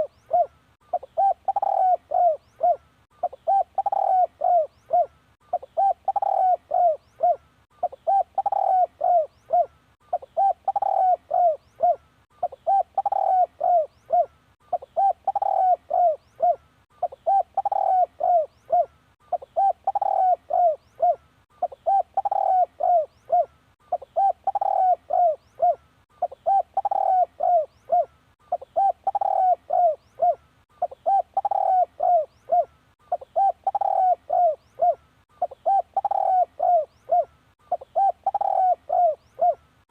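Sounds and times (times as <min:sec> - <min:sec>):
dove cooing: 0:00.0 - 0:39.7.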